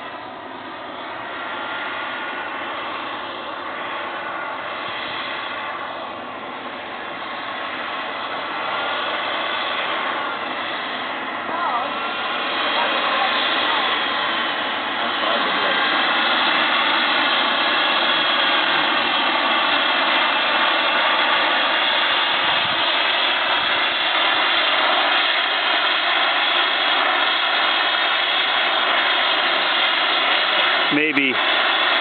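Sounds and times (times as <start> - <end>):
model jet turbine hissing: 0.0 - 32.0.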